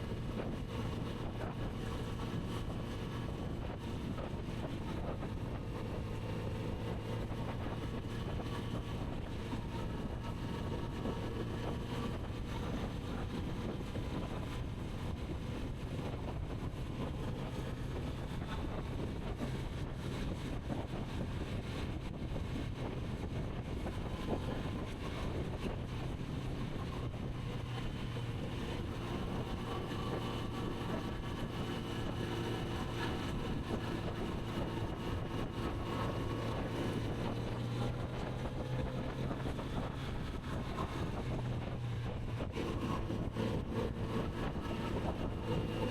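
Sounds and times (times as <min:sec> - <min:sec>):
motorcycle engine cruising: 0:00.0 - 0:45.9
wind rushing over microphone: 0:00.0 - 0:45.9.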